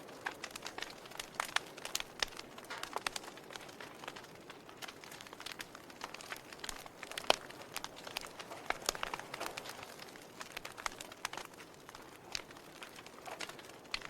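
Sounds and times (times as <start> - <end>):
fire popping and snapping: 0.0 - 14.0
soft fire hiss: 0.0 - 14.0
wood fire crackling: 0.0 - 14.0.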